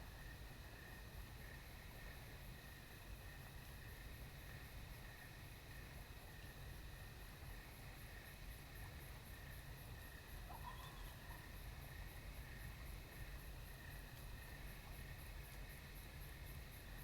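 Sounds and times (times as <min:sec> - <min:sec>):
high pulsing insect chirping: 0:00.0 - 0:17.0
low insect trill: 0:00.0 - 0:17.0.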